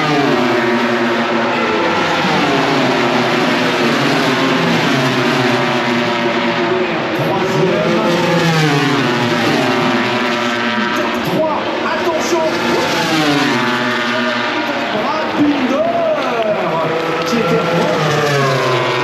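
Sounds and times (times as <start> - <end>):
racing motorcycles passing: 0.0 - 19.0.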